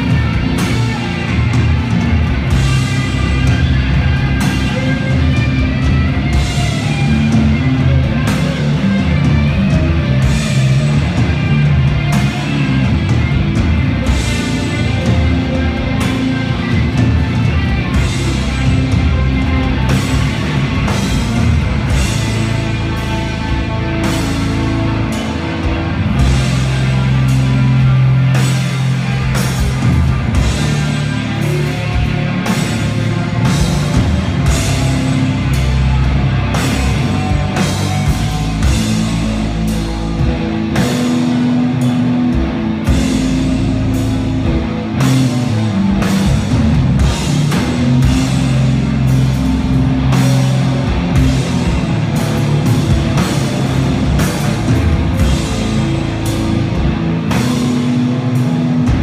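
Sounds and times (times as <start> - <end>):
doom metal band playing: 0.0 - 59.0.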